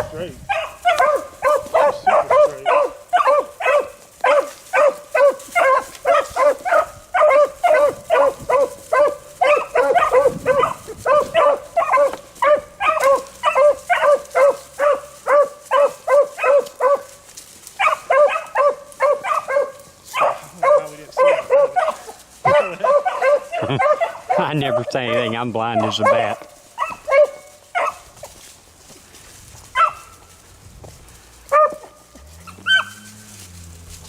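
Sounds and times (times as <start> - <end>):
dogs baying: 0.0 - 28.3, 29.7 - 30.4, 31.0 - 34.0.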